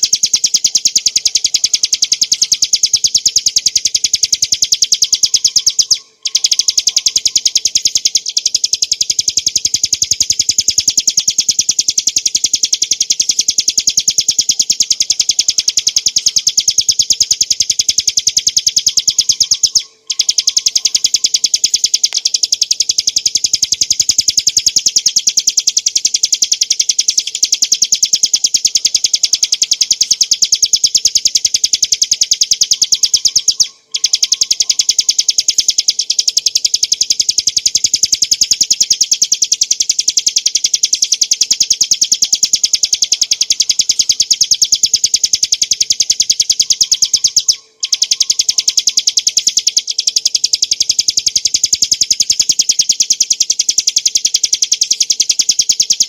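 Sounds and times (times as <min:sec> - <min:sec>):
bird singing high sharp notes: 0:00.0 - 0:56.0.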